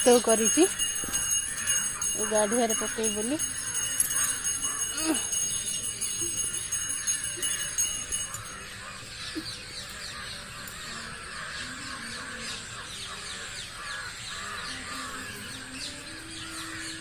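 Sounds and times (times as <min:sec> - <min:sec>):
chorus of small animals calling: 0:00.0 - 0:17.0.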